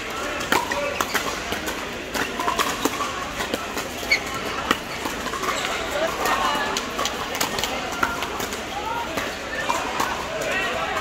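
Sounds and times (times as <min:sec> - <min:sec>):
paddles hitting plastic ball: 0:00.0 - 0:11.0.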